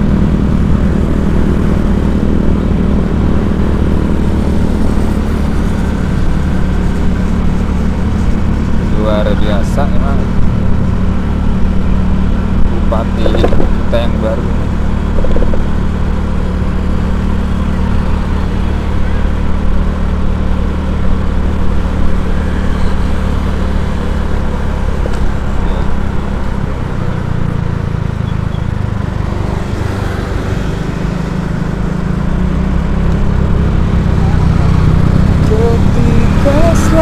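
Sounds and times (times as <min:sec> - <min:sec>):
road and wind noise: 0:00.0 - 0:37.0
vehicle engine humming: 0:00.0 - 0:37.0.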